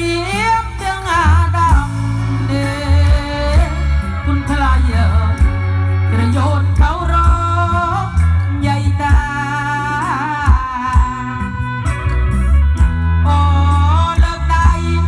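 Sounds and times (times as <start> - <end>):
person singing over heavy bass: 0.0 - 15.0.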